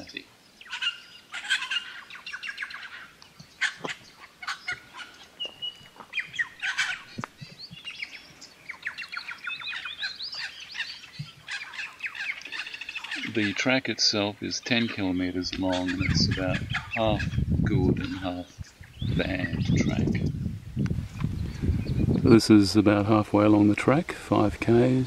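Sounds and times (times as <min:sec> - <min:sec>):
bird chorus: 0:00.0 - 0:25.0.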